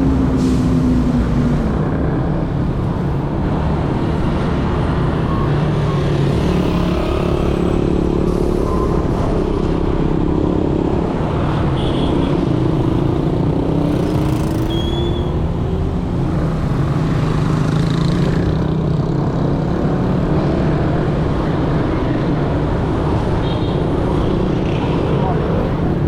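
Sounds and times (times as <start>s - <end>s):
motorbike traffic: 0.0s - 26.0s
road and wind noise: 0.0s - 26.0s.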